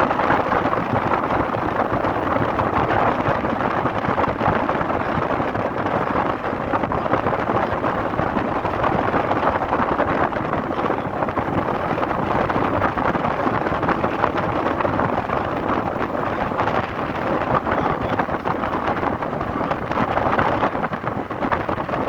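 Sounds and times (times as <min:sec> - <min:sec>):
wind and road noise from car: 0:00.0 - 0:22.0.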